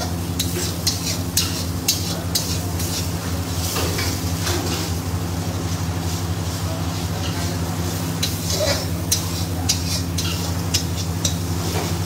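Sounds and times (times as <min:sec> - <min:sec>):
spoon stirring and scraping pan: 0:00.0 - 0:05.0, 0:07.1 - 0:12.0
soft sizzle: 0:00.0 - 0:12.0.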